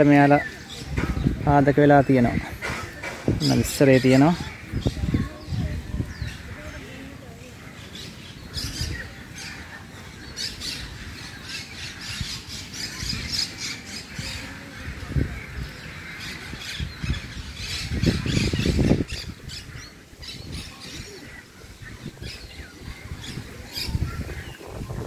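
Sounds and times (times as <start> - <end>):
birds squawking and chattering: 0.0 - 25.0.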